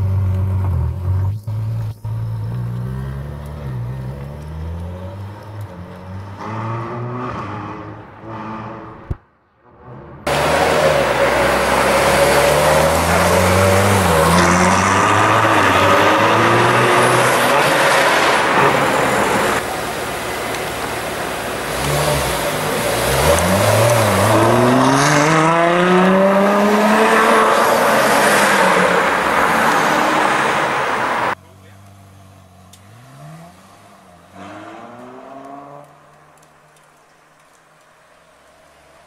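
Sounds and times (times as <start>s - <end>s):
car engine accelerating hard: 0.0s - 9.1s, 9.8s - 36.5s.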